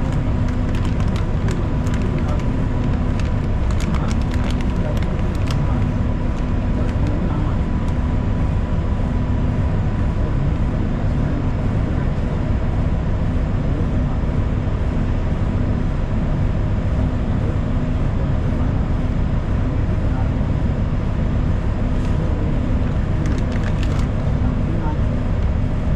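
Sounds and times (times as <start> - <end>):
bus engine and road rumble: 0.0 - 25.9
faint hum: 0.0 - 25.9.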